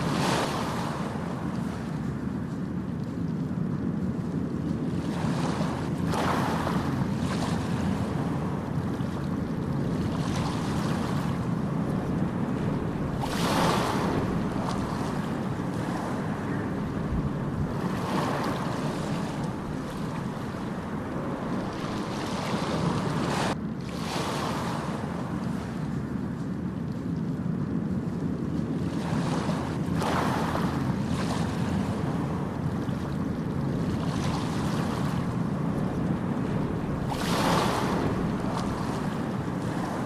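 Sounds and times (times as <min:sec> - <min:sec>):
low rumble of sea: 0:00.0 - 0:40.0
waves breaking on shore: 0:00.0 - 0:40.0.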